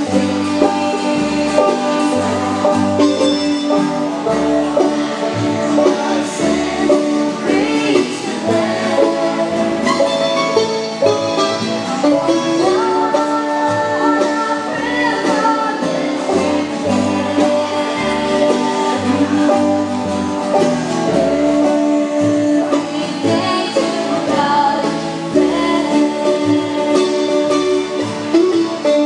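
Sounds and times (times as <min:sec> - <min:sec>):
people singing: 0:00.0 - 0:10.5, 0:11.6 - 0:28.1
bluegrass band playing: 0:00.0 - 0:29.0.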